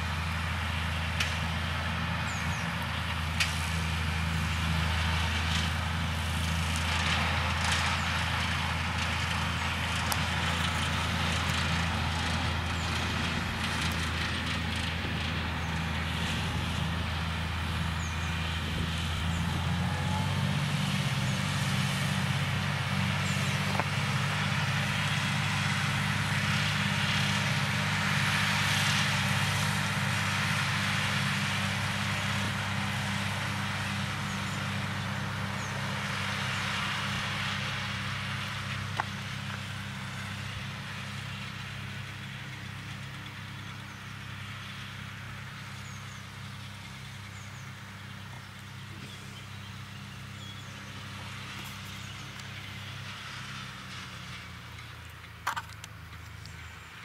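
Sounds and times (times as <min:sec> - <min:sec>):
mower cutting grass: 0:00.0 - 0:57.0
tractor engine running: 0:00.0 - 0:57.0.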